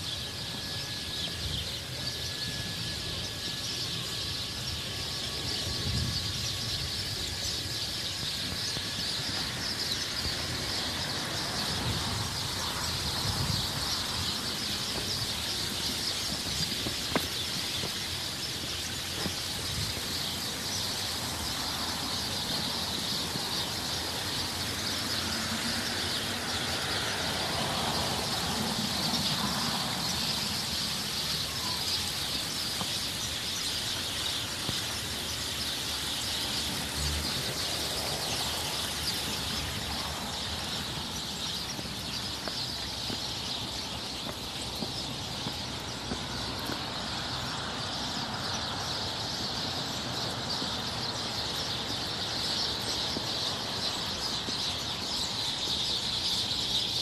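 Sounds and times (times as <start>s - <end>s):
flock of birds chirping: 0.0s - 57.0s.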